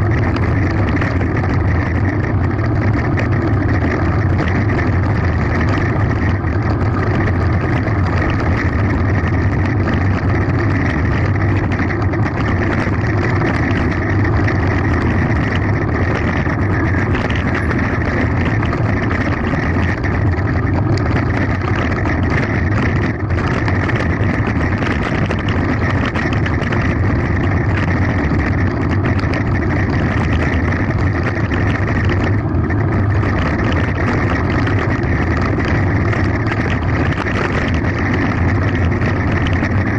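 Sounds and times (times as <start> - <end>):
bike rattling on gravel: 0.0 - 39.9
wind on microphone: 0.0 - 39.9.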